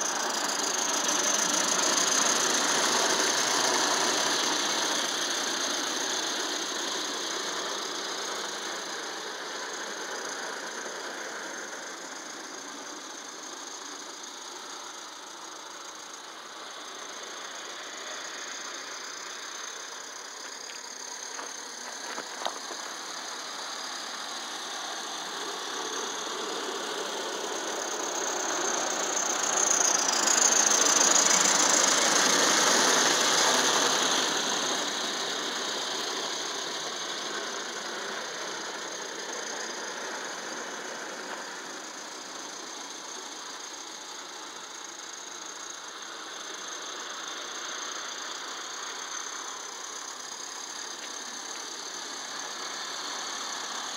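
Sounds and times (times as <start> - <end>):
cars running on track: 0.0 - 53.9
steam locomotive exhaust: 0.0 - 53.9.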